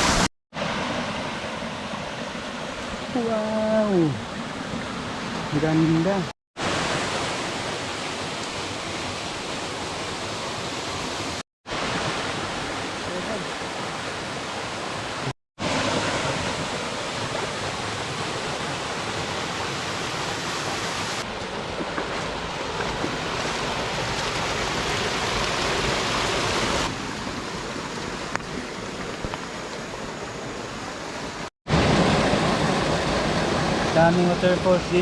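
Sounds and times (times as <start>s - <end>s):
waterfall rushing: 5.4s - 21.3s, 22.3s - 35.0s.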